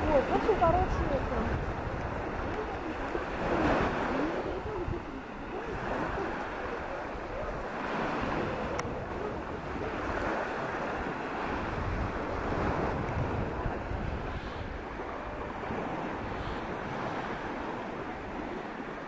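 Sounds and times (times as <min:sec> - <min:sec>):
waves washing onto beach: 0:00.0 - 0:19.0
wind on microphone: 0:00.0 - 0:19.0.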